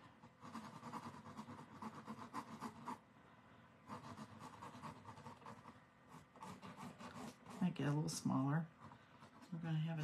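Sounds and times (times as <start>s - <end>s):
pen scratching on board: 0.3s - 3.0s, 3.9s - 10.0s.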